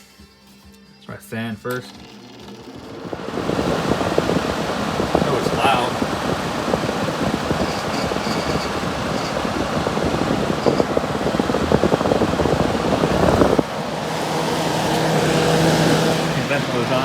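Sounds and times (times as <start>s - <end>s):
air conditioner fan running: 1.9s - 17.0s.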